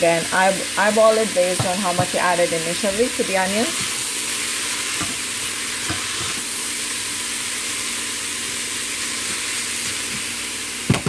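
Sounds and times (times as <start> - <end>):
vegetables sizzling in a pot: 0.0 - 11.0.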